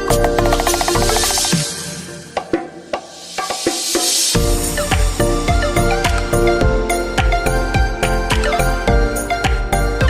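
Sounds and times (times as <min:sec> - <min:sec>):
electronic music with deep bass: 0:00.0 - 0:02.7, 0:04.4 - 0:10.0.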